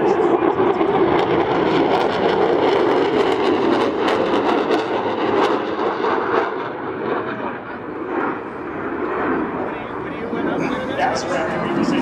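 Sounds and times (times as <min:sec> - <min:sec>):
jet engines roaring past: 0:00.0 - 0:12.0.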